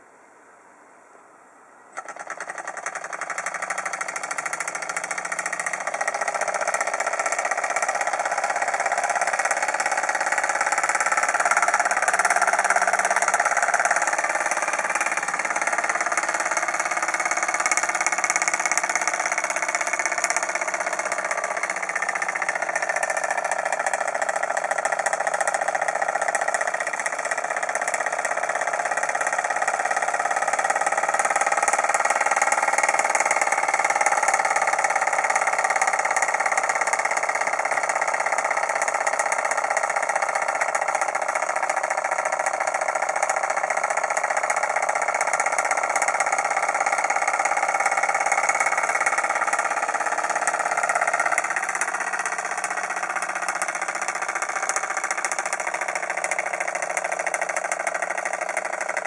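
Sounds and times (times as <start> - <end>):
model engine clattering: 1.9 - 59.0.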